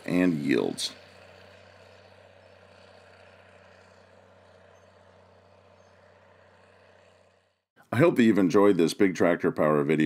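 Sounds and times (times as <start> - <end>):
faint tractor engine: 0.0 - 10.0.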